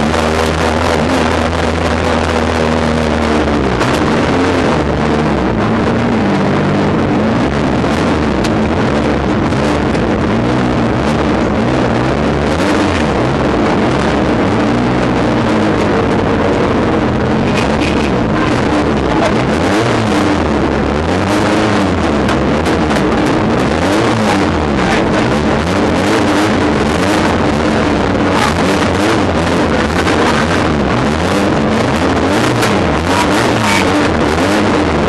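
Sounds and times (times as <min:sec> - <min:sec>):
cabin and wind noise: 0:00.0 - 0:35.0
race car engine revving: 0:00.0 - 0:35.0.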